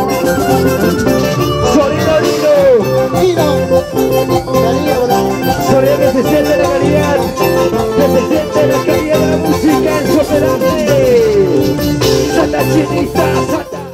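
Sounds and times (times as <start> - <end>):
live latin band music: 0.0 - 13.9.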